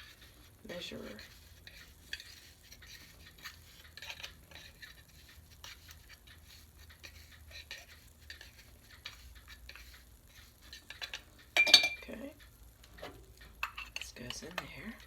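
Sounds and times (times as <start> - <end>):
scoop scraping and tapping coffee: 0.0 - 15.0.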